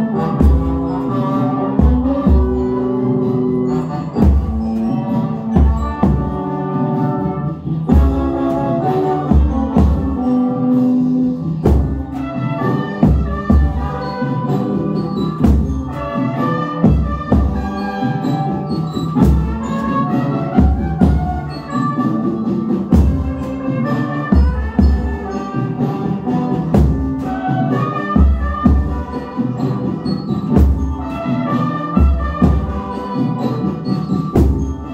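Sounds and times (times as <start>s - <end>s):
recorded brass band music: 0.0s - 34.9s.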